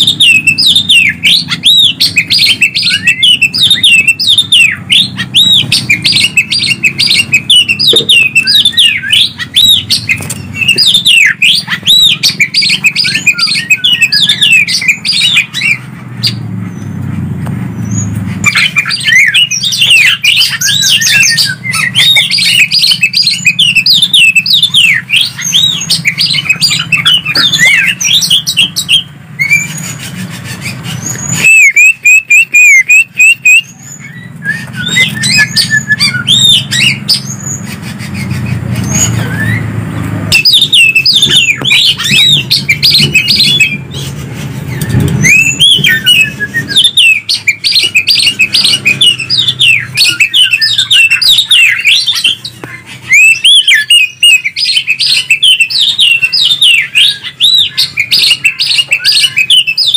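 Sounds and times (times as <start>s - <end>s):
birds singing whistles and chirps: 0.0s - 59.9s
loud repeated bird notes: 0.0s - 59.9s.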